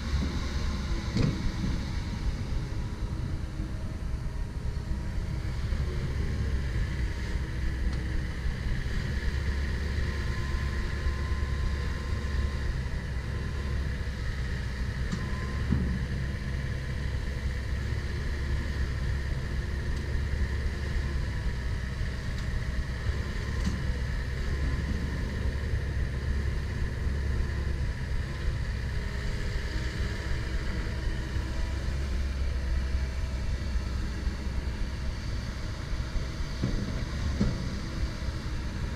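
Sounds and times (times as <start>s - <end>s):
excavator diesel engine rumbling: 0.0s - 38.9s.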